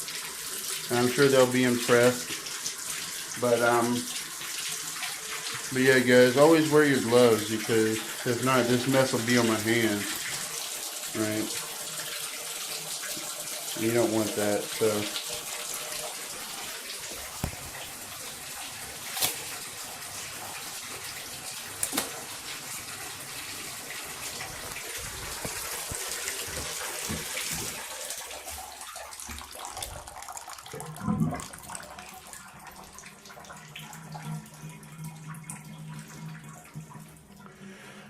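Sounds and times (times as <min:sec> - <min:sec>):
faucet running into tub: 0:00.0 - 0:37.7.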